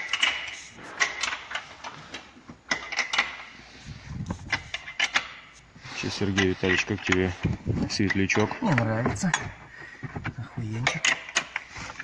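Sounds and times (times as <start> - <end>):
hand tools clicking and clanking: 0.0 - 12.0.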